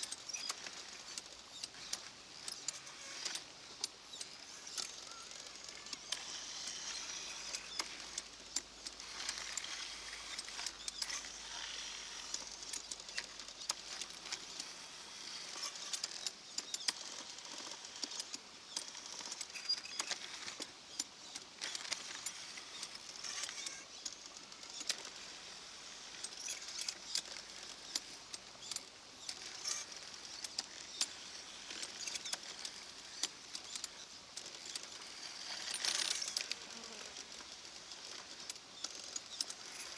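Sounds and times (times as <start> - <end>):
sharp clicks: 0.0 - 39.9.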